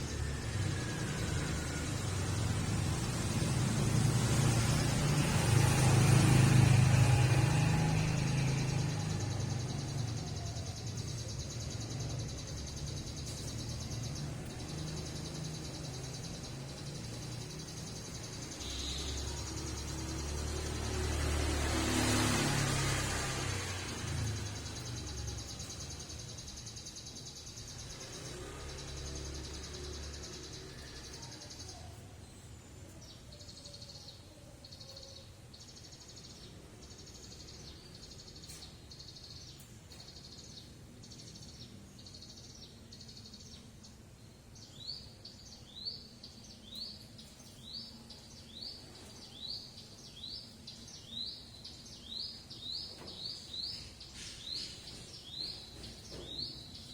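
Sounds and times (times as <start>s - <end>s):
bird singing: 0.0s - 56.9s.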